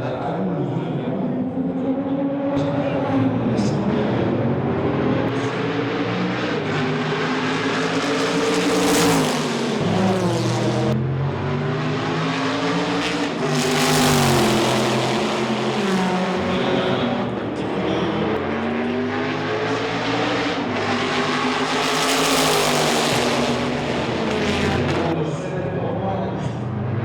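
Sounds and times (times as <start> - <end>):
racing car engine revving: 0.6 - 25.5.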